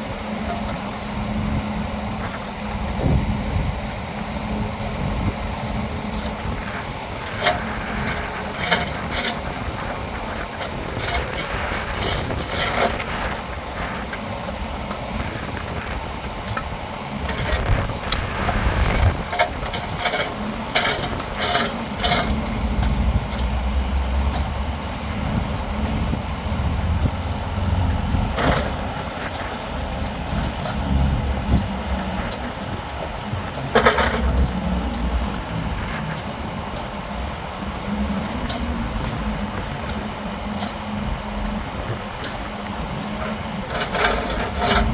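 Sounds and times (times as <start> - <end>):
construction machinery engine running: 0.0 - 44.9.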